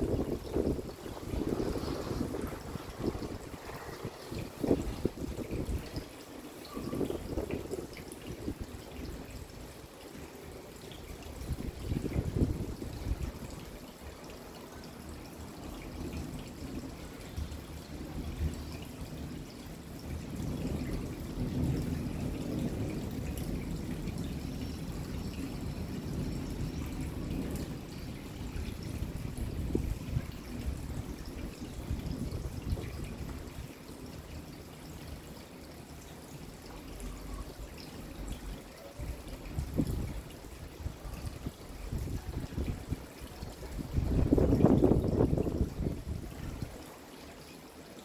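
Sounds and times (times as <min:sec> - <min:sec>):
rain falling: 0:00.0 - 0:48.0
water pouring and trickling: 0:00.0 - 0:48.0.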